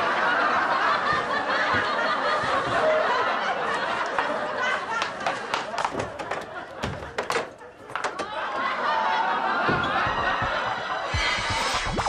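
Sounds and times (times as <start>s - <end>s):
laugh track: 0.0s - 12.0s.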